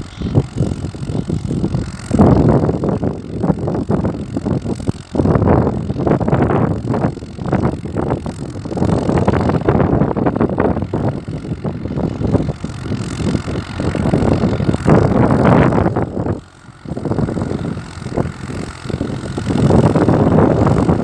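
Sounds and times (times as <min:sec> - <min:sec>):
distant tractor engine running: 0:00.0 - 0:21.0
wind buffeting microphone: 0:00.0 - 0:21.0.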